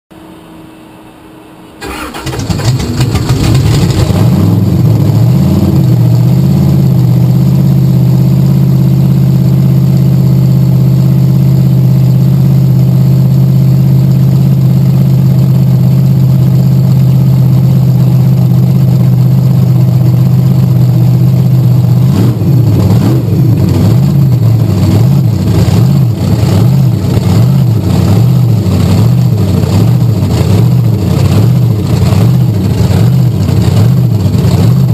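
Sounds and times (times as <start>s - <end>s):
monster truck engine: 1.8s - 34.9s.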